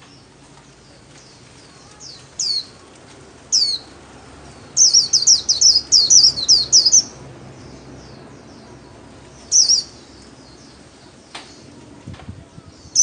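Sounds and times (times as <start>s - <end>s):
bird singing high twittering song: 0.0s - 13.0s.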